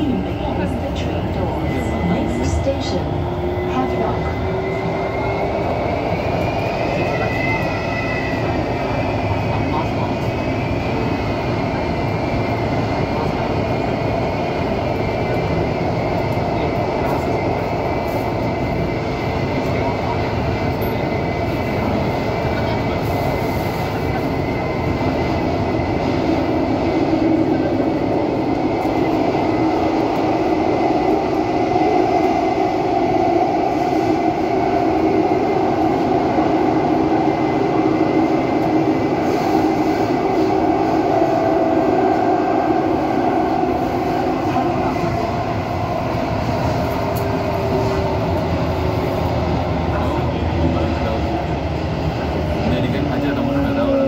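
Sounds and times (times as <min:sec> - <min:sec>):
metro train rumbling in tunnel: 0:00.0 - 0:54.0.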